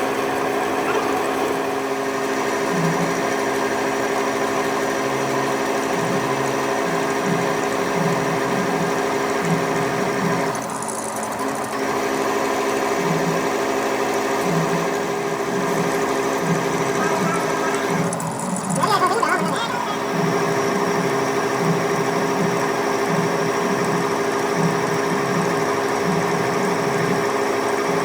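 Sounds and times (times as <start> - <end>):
machine tool humming: 0.0 - 28.0.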